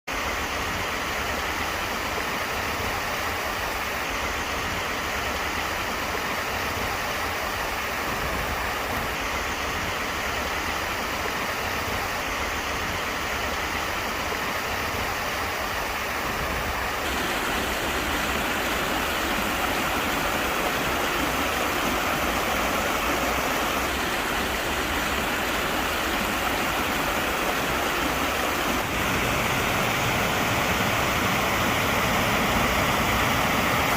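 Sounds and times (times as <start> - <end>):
stream water rushing over stones: 0.1 - 33.9.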